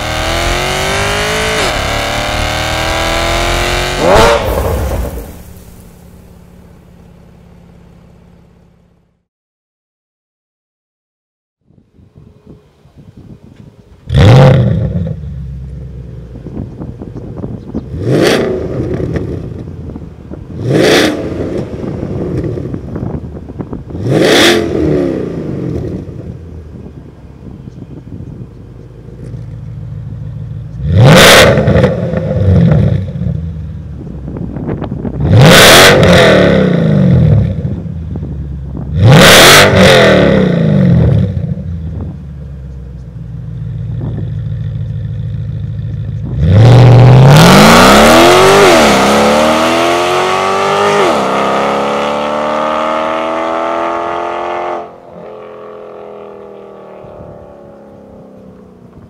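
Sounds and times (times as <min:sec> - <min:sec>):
car engine starting: 0:00.0 - 0:09.2, 0:12.2 - 0:59.0
car engine idling and revving: 0:00.0 - 0:09.3, 0:11.7 - 0:59.0.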